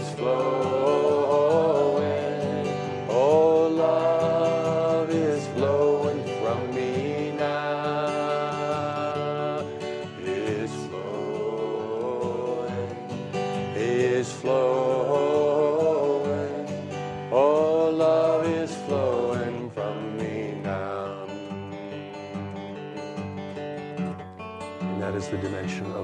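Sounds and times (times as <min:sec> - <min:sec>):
plucked guitar: 0:00.0 - 0:26.0.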